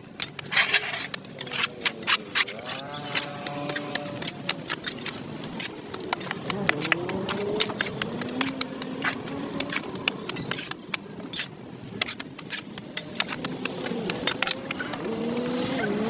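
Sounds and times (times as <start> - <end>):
hand tool scraping dirt: 0.0 - 16.0.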